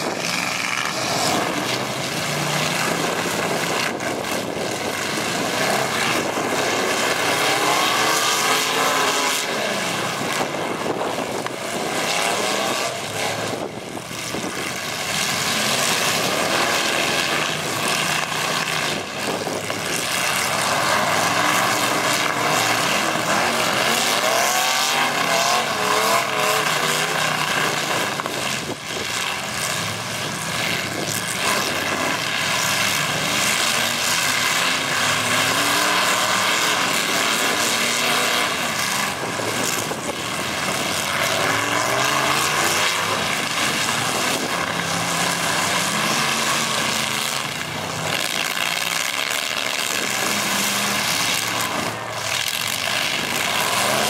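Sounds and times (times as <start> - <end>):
truck engines revving: 0.0 - 54.0.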